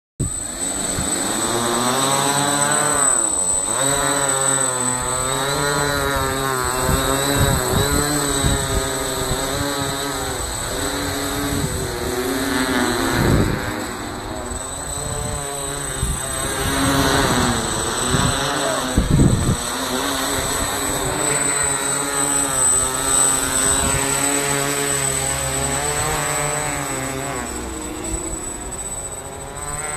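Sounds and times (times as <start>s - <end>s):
quadcopter propellers buzzing: 0.2s - 29.9s.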